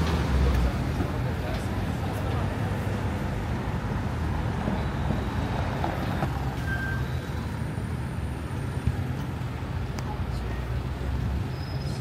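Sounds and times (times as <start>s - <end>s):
low rumble of vehicle engines: 0.0s - 12.0s.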